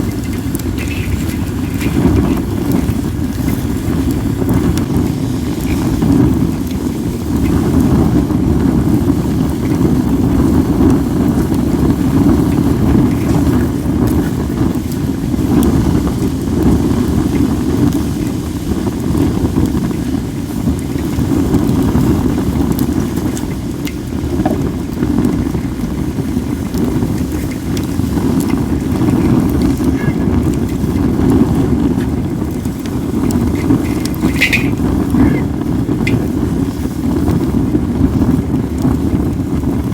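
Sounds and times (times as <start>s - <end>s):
wind rumble on microphone: 0.0s - 39.9s
wood fire crackling and popping: 0.0s - 39.9s.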